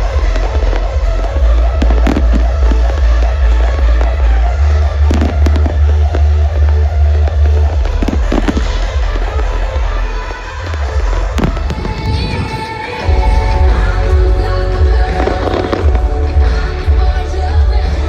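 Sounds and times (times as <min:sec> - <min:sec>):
fireworks bangs: 0:00.0 - 0:16.7
music with pulsing bass beat: 0:00.0 - 0:18.0.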